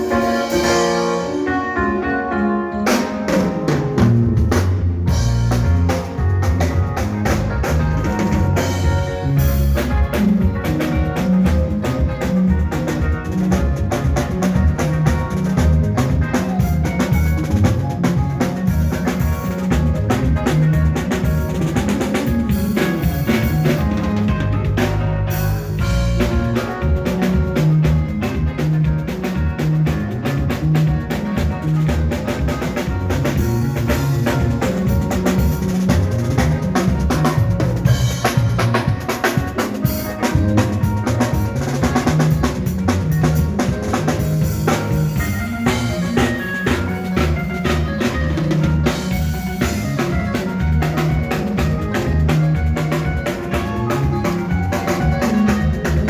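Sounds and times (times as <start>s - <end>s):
band playing upbeat groove: 0.0s - 56.0s
drum kit steady beat: 0.0s - 56.0s.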